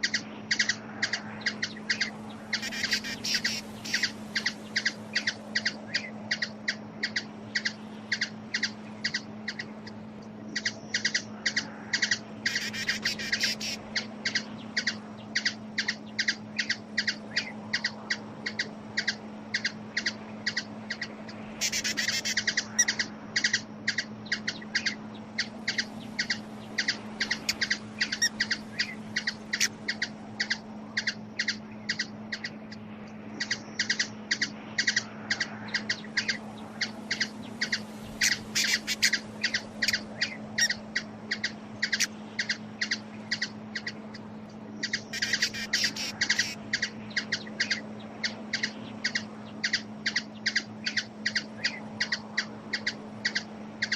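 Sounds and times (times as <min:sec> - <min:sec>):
hummingbird chip calls: 0:00.0 - 0:53.9
steady low hum: 0:00.0 - 0:53.9.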